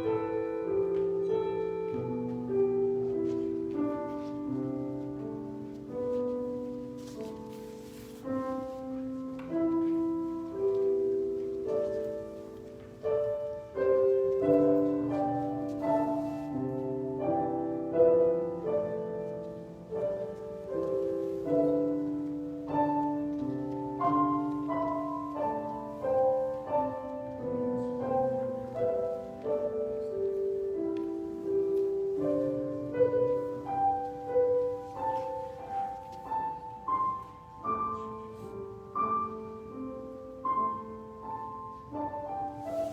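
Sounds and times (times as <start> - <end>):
slow gentle solo piano: 0.0 - 42.9.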